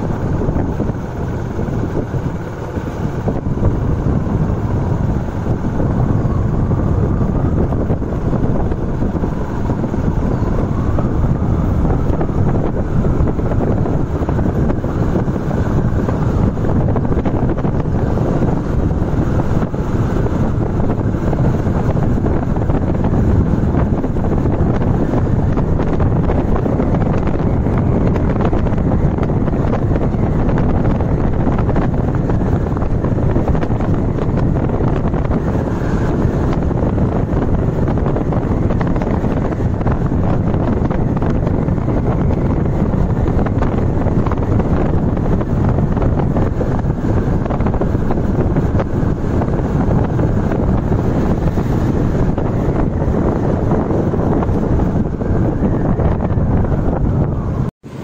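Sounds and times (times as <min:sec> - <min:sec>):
vehicle road and engine noise: 0:00.0 - 0:58.0
wind rushing over microphone: 0:00.0 - 0:58.0.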